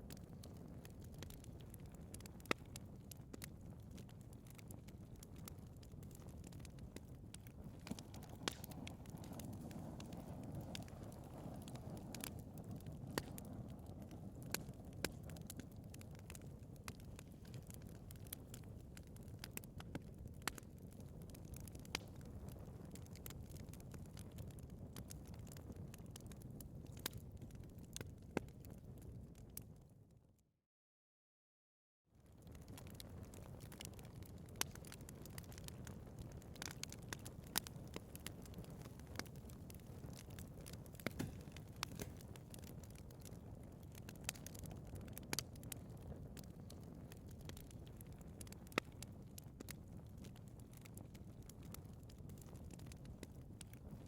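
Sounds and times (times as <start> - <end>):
burning wood crackling and popping: 0.0 - 29.8, 32.2 - 54.0
fire flames rumbling: 0.0 - 29.9, 32.2 - 54.0.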